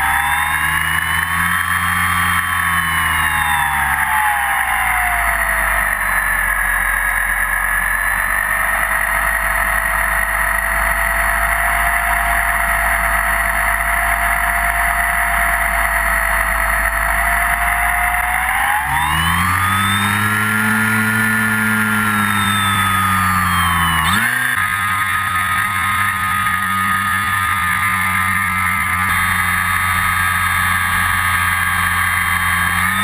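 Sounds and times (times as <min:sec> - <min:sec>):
electric motor and propeller whine: 0:00.0 - 0:33.0.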